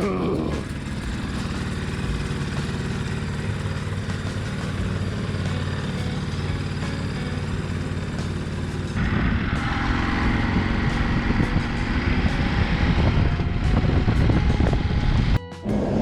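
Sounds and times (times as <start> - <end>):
motorcycle engine idling: 0.0 - 16.0
rough engine with hiss: 0.0 - 16.0.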